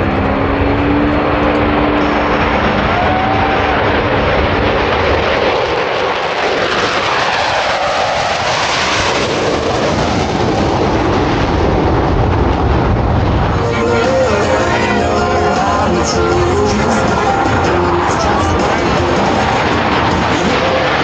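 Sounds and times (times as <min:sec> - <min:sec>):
jets flying past: 0:00.0 - 0:21.0.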